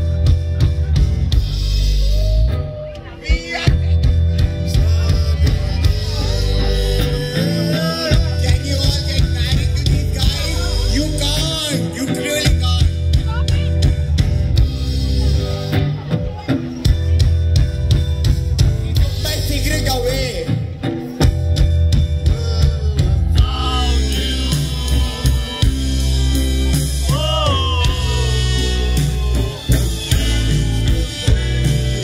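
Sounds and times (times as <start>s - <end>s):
electric guitar: 0.0s - 32.0s
live rock band playing: 0.0s - 32.0s.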